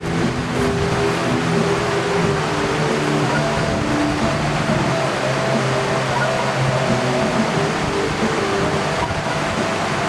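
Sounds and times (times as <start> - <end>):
dense rushing wash: 0.0 - 10.0
sustained music notes: 0.0 - 10.0.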